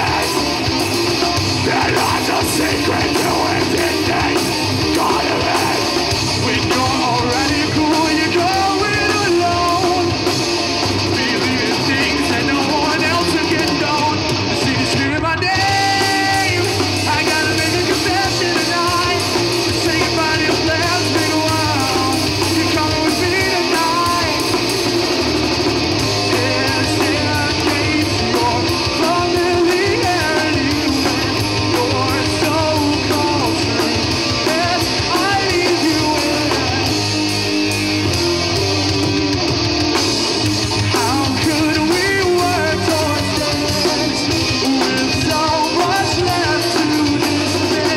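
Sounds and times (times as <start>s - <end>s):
electric guitar: 0.0s - 47.9s
rock band playing live: 0.0s - 47.9s
person singing: 1.6s - 10.3s, 11.0s - 24.7s, 26.2s - 37.1s, 40.8s - 47.9s.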